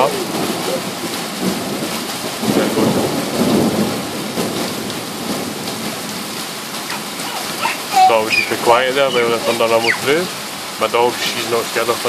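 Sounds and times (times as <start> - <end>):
heavy rain: 0.0 - 12.0
thunder rumbling: 0.2 - 10.8.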